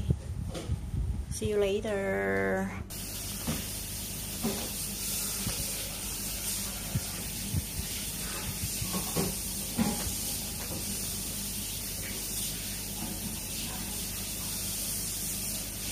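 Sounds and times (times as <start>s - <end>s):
oven fan hiss and hum: 0.0s - 15.9s.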